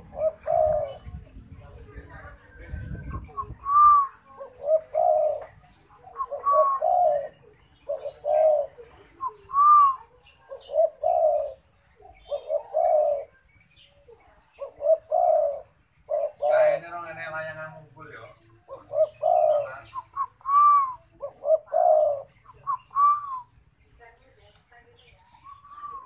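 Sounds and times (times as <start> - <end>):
dove cooing: 0.0 - 17.5, 18.2 - 23.5, 25.2 - 26.0.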